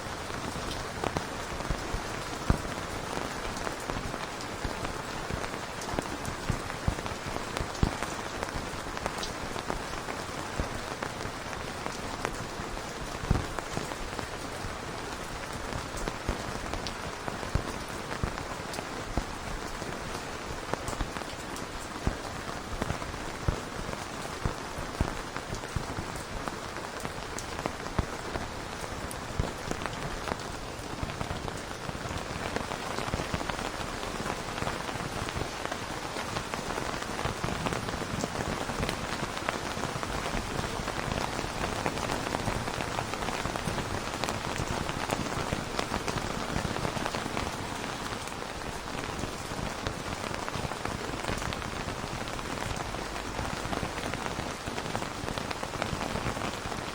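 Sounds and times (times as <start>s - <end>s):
steady rain hiss: 0.0s - 56.9s
raindrop ticks: 0.3s - 56.9s.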